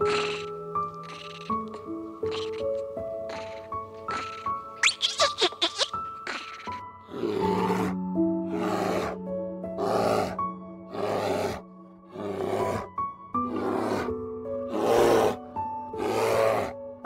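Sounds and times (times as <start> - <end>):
bear roaring: 0.0 - 4.6, 6.3 - 16.8
gentle background music: 0.0 - 17.0.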